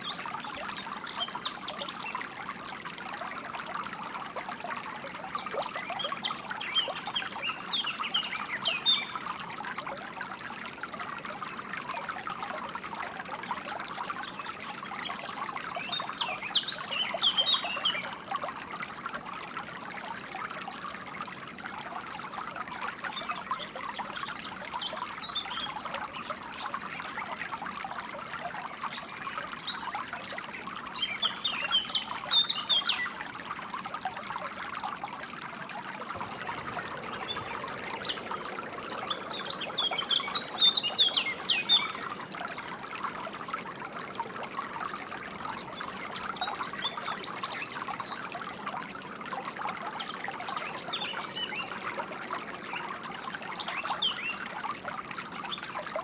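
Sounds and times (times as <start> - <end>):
water trickling in stream: 0.0 - 56.0.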